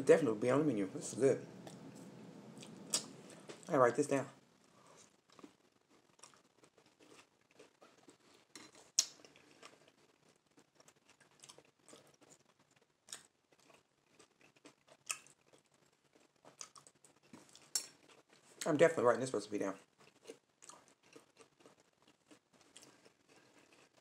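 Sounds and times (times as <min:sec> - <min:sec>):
person chewing food: 0:01.6 - 0:03.7, 0:04.7 - 0:18.6, 0:19.9 - 0:24.0.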